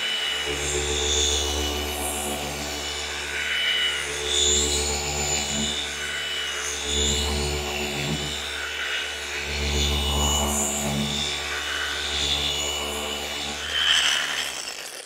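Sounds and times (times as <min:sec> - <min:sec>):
orbital polisher motor hum: 0:00.0 - 0:15.0.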